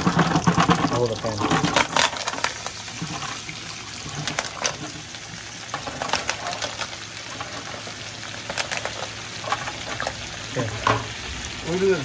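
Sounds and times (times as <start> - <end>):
mussel shells clattering: 0.0 - 3.4, 4.1 - 5.1, 5.7 - 11.0
butter sizzling: 0.0 - 12.0.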